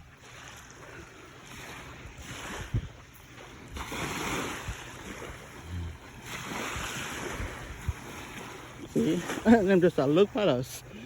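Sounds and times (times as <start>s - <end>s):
seaside wind: 0.0s - 11.0s
surf: 0.0s - 11.0s.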